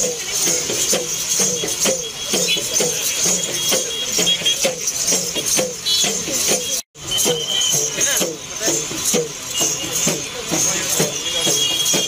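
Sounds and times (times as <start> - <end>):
drums beating steady rhythm: 0.0 - 12.0
jingling bells: 0.0 - 12.0.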